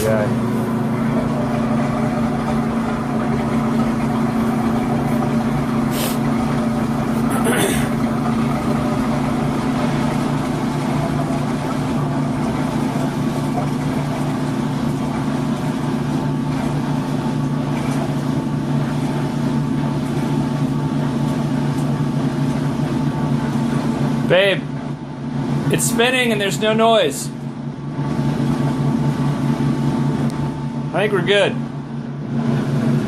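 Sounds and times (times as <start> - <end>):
washing machine spinning: 0.0 - 33.0.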